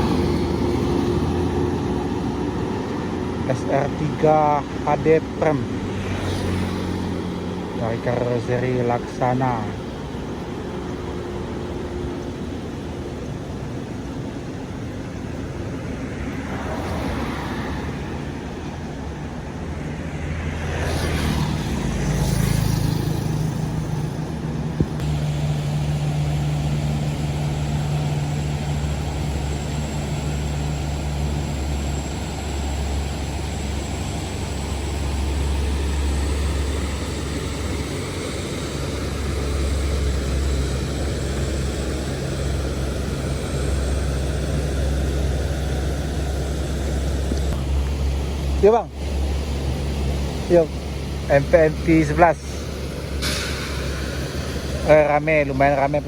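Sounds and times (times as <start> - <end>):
vehicle passing by: 0.0 - 14.0, 14.7 - 56.0
heavy vehicle engine droning: 0.0 - 56.0.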